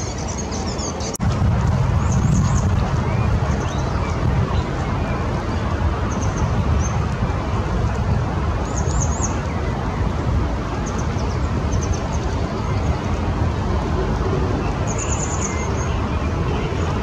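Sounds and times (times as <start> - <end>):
low outdoor rumble: 0.5 - 17.0.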